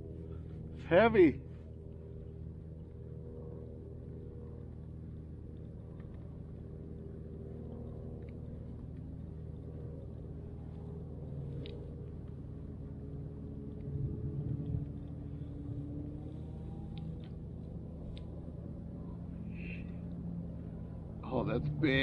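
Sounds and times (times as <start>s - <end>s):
low motor rumble: 0.0s - 22.0s.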